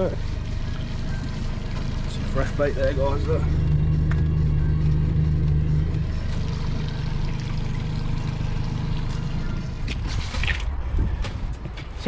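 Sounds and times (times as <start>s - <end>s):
outboard motor idling: 0.0s - 10.1s.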